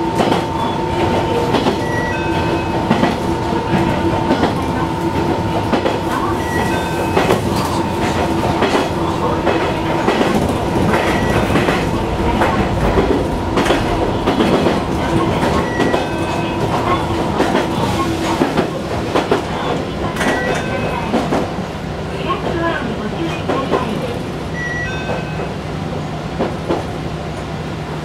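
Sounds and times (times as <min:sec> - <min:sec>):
train running noise: 0:00.0 - 0:28.0.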